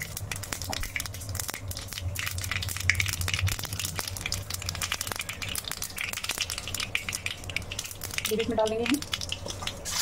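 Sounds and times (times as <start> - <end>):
low steady hum: 0.0 - 10.0
seeds crackling in hot oil: 0.0 - 10.0.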